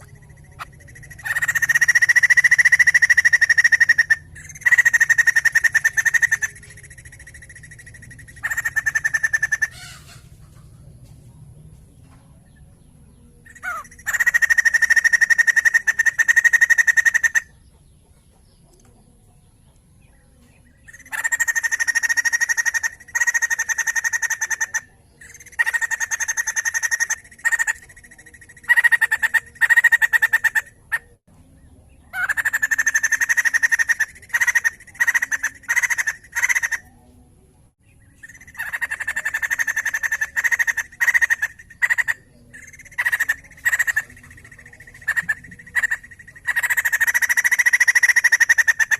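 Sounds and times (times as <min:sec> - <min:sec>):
bird calling in rattling bursts: 0:00.0 - 0:10.3, 0:13.5 - 0:17.5, 0:20.9 - 0:31.1, 0:32.2 - 0:36.8, 0:38.2 - 0:48.9.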